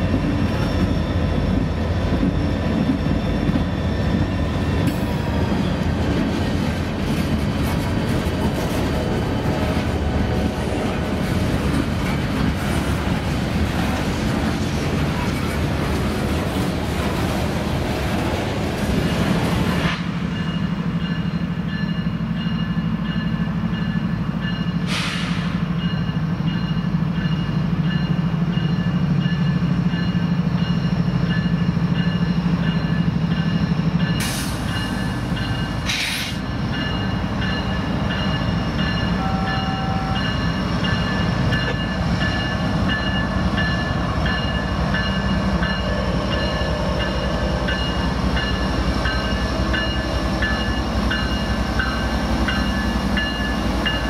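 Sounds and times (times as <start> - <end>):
train running on rails: 0.0 - 54.0.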